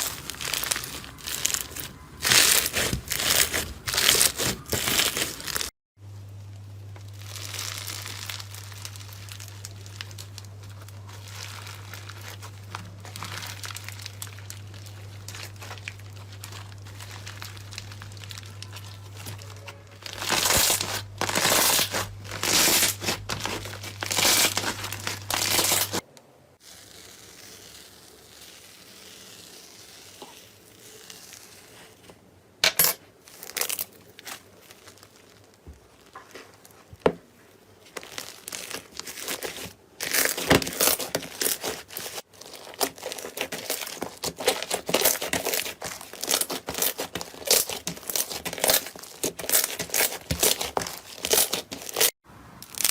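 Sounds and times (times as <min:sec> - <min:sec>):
slime crinkling and crackling: 0:00.0 - 0:32.2, 0:33.2 - 0:52.9.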